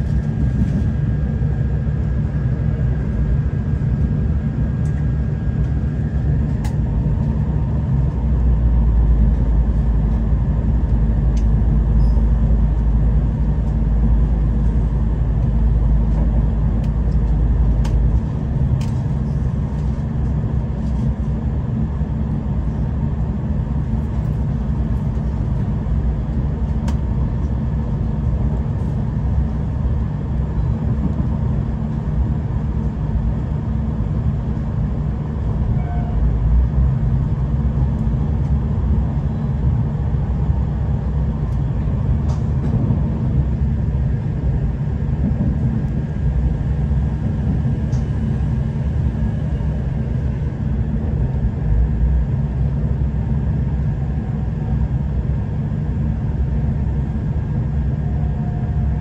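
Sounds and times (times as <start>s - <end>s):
diesel train rumble: 0.0s - 59.0s.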